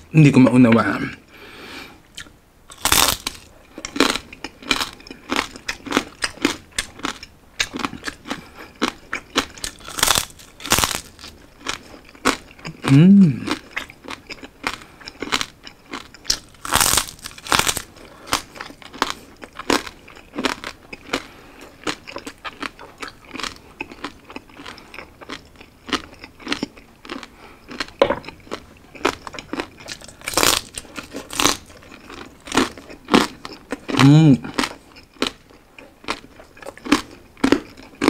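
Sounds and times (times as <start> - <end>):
chewing crispy pork: 2.1 - 38.0
loud crunchy bites: 2.7 - 35.4.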